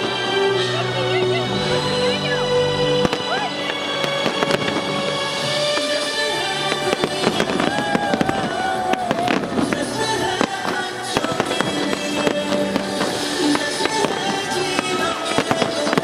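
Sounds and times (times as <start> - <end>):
fireworks bursting and crackling: 0.0 - 16.0
music playing: 0.0 - 16.0.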